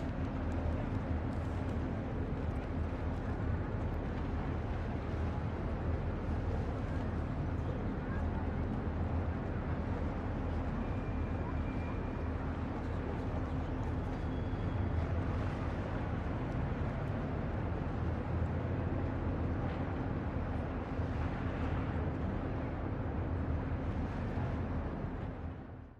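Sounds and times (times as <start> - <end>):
low engine hum: 0.0 - 25.9.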